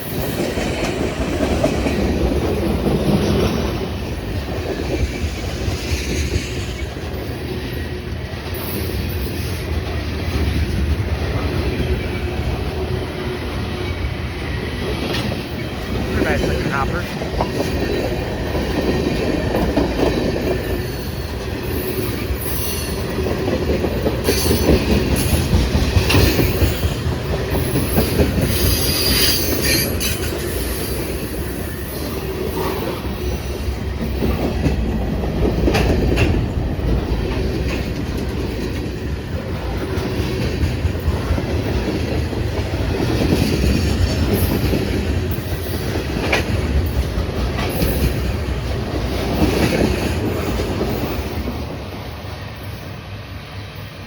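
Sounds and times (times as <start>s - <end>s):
train wheels clattering over rails: 0.0s - 53.9s.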